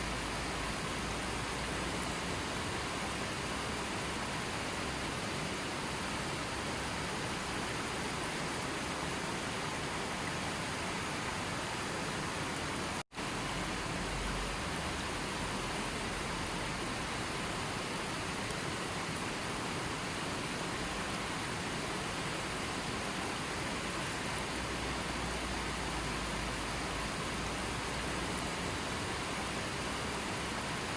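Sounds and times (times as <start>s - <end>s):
rushing water: 0.0s - 30.9s.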